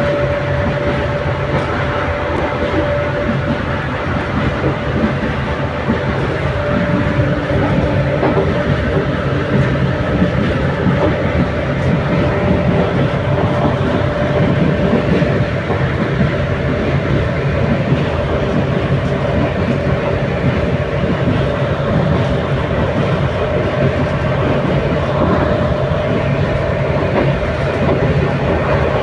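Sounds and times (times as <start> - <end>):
faint clickety-clack: 0.0 - 29.0
train wheels rumbling on rails: 0.0 - 29.0.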